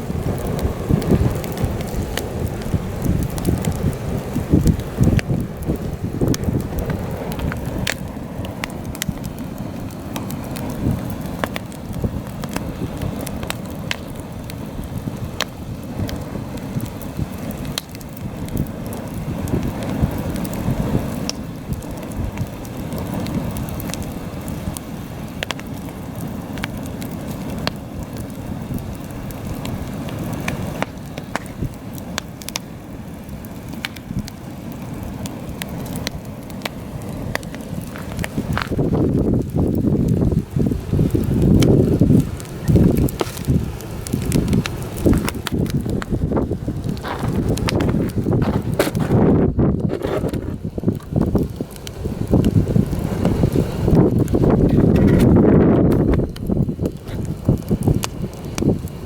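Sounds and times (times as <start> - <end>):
campfire crackling and popping: 0.0 - 59.0
wind buffeting microphone: 0.0 - 59.0.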